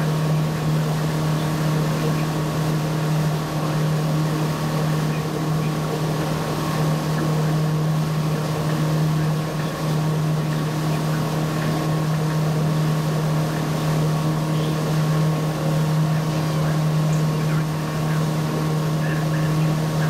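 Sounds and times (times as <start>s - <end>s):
churned water: 0.0s - 20.0s
motorboat engine drone: 0.0s - 20.0s.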